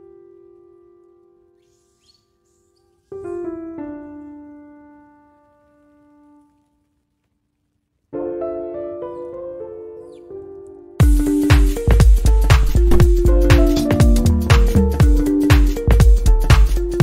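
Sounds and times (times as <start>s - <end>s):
piano music: 0.0s - 1.6s, 2.9s - 6.5s, 8.2s - 17.0s.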